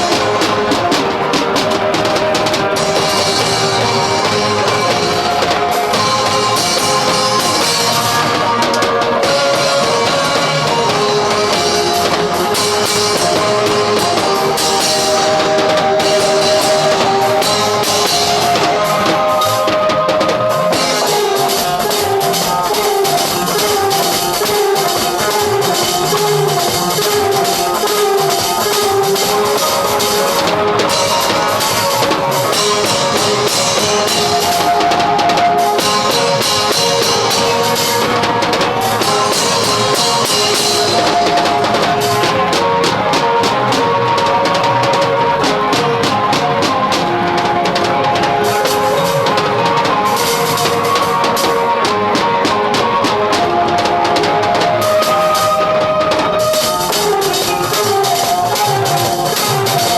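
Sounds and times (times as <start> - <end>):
melodic instruments: 0.0 - 59.9
steady drum beat: 0.0 - 59.9.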